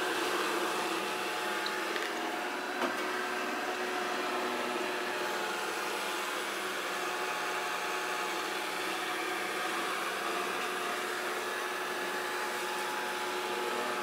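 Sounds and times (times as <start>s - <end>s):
robot vacuum cleaner whirring: 0.0s - 14.0s.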